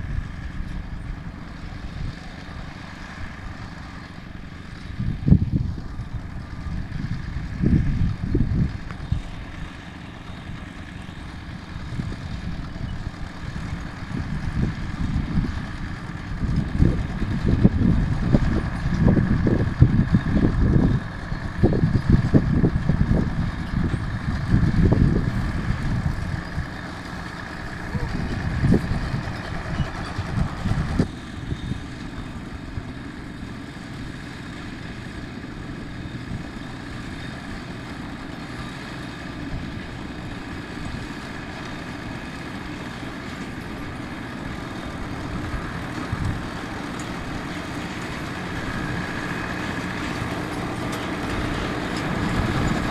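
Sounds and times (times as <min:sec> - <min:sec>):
baler rumbling and humming: 0:00.0 - 0:52.9.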